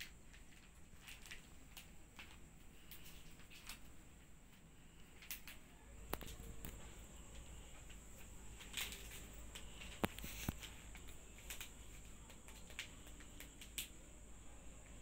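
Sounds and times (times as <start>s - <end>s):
cellophane crinkling and rustling: 0.0s - 13.9s.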